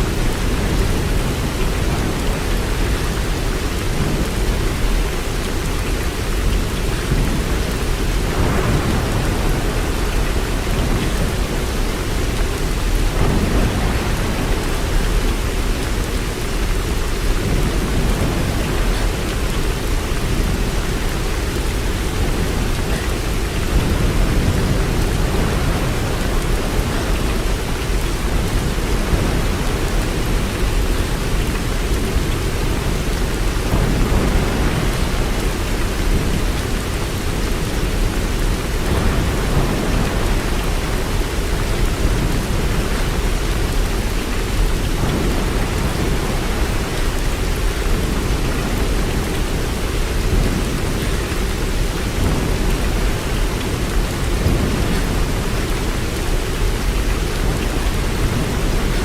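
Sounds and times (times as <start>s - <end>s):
steady rain with low rumble: 0.0s - 59.0s.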